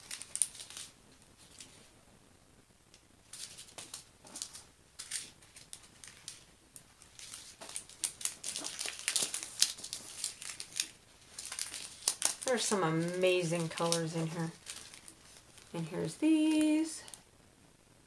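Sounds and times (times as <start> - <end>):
plastic bags crinkling: 0.0 - 1.8, 3.2 - 17.2.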